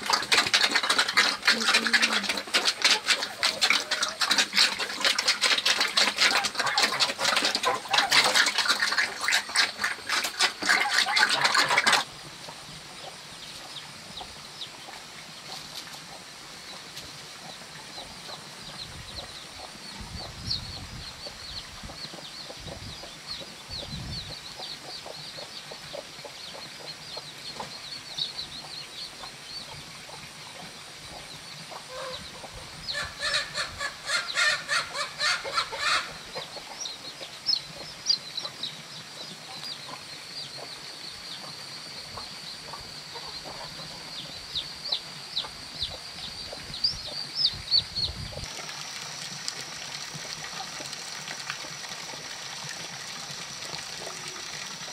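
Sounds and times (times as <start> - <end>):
chickens clucking and calling: 0.0 - 49.2.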